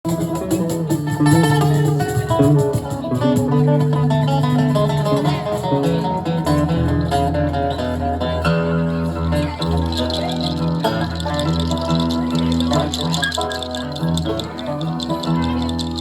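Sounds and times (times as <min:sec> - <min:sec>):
guitar picking fast notes: 0:00.1 - 0:16.0.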